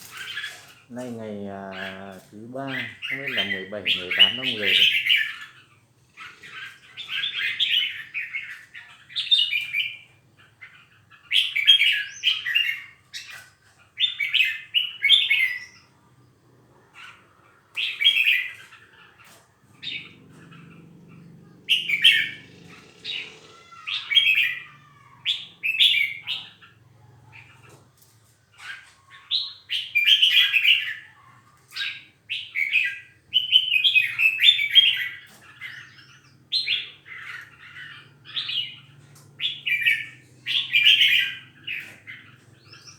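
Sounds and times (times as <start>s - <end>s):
songbirds chattering: 0.0s - 42.9s.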